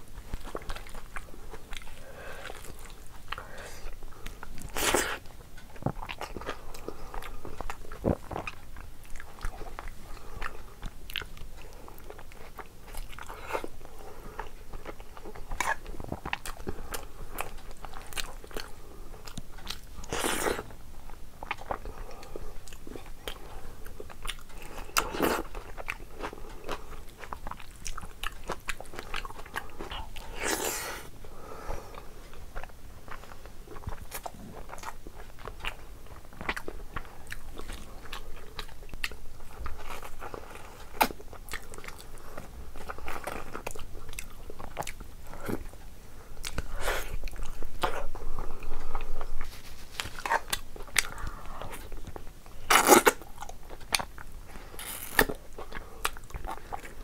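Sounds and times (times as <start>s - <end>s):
person chewing rice: 0.0s - 57.0s.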